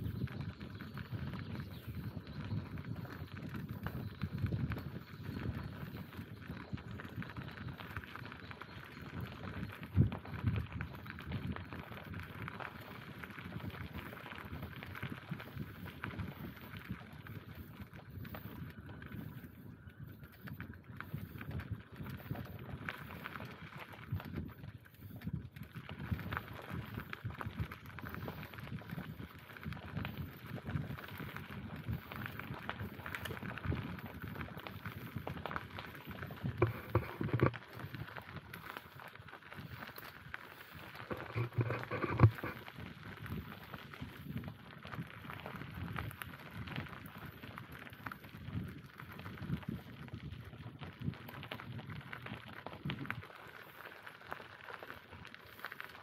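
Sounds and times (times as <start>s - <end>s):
bicycle rattling: 0.0s - 56.0s
bicycle tyres rumbling: 0.0s - 56.0s.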